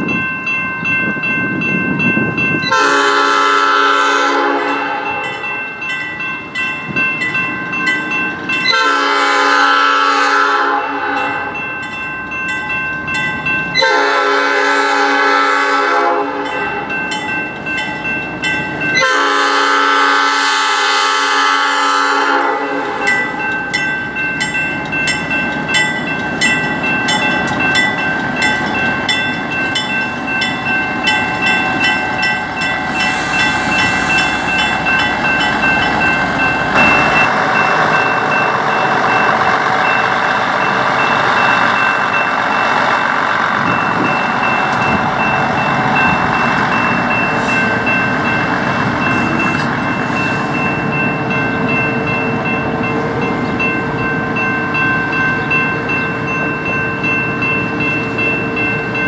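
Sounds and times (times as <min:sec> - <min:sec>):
rail car wheel noise: 0:00.0 - 0:59.0
railroad crossing bell ringing: 0:00.0 - 0:59.0.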